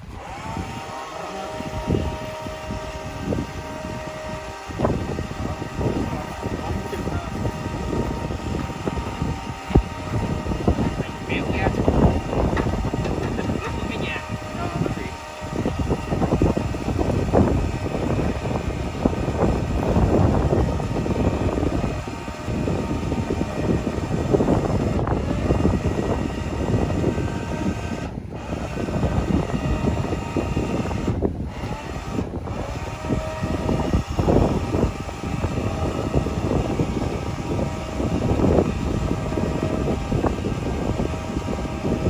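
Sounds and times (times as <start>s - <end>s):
electric jack motors running: 0.0s - 42.0s.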